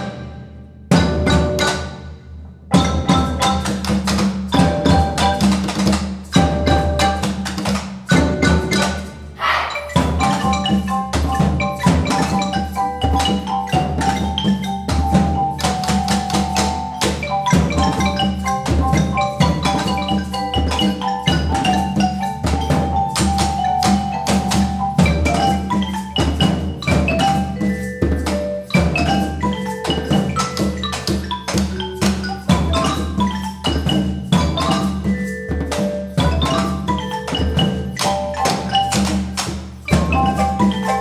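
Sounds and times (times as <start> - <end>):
hand drums and percussion: 0.0 - 41.0
marimba and vibraphone notes: 0.0 - 41.0.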